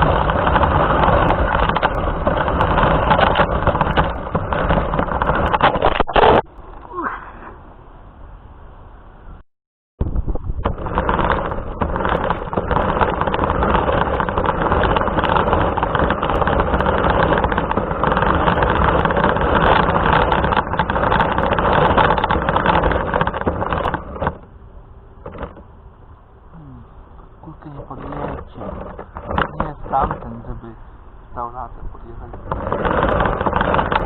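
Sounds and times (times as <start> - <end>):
rc car motor and tyres: 0.0 - 7.2, 10.1 - 34.0.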